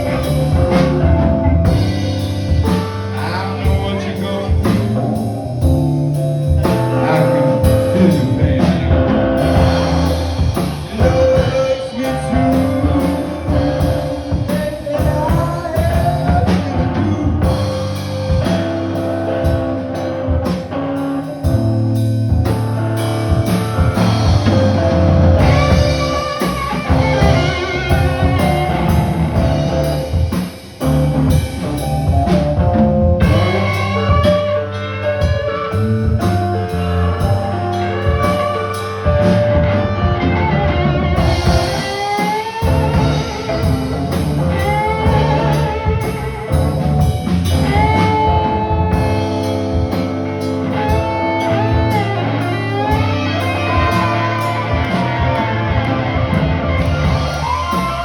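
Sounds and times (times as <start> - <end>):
blues-rock band playing: 0.0 - 58.0
guitar bending notes: 0.0 - 58.0.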